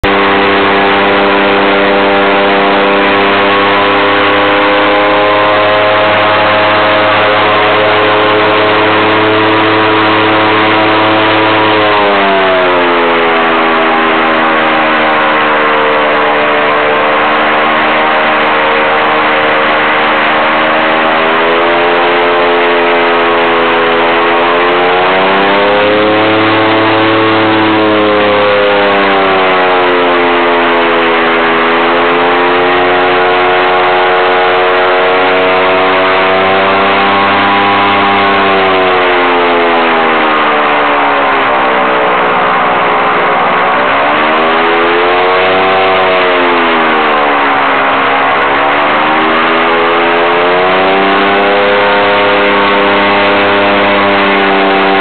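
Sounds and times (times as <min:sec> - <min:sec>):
airboat engine and propeller: 0:00.0 - 0:55.0.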